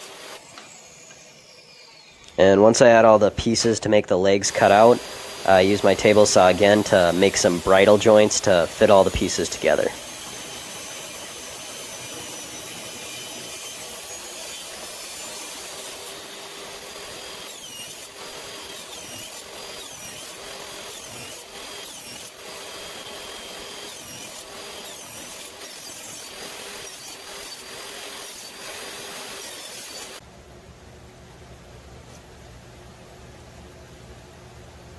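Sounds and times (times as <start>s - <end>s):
table saw cutting wood: 0.0s - 30.2s.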